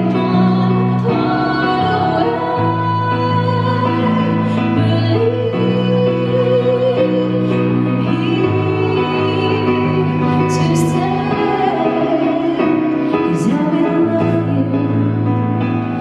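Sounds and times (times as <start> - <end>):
woman singing a slow ballad: 0.0 - 16.0.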